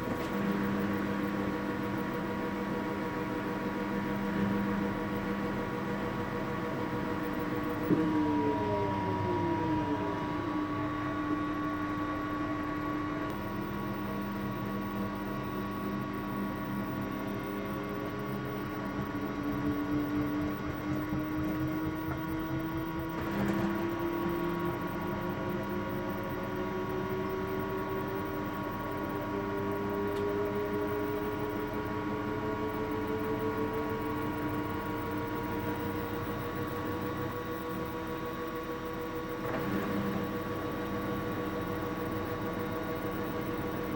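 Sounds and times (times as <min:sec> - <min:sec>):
washing machine spinning: 0:00.0 - 0:14.8, 0:16.0 - 0:43.9.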